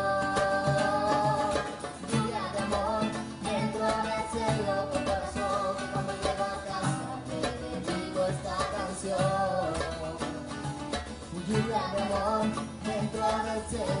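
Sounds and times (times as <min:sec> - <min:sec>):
acoustic guitars strumming: 0:00.0 - 0:14.0.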